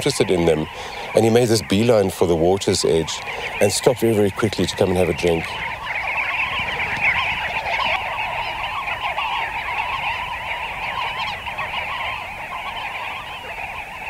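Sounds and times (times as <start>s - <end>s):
flock of birds calling: 0.0s - 14.0s.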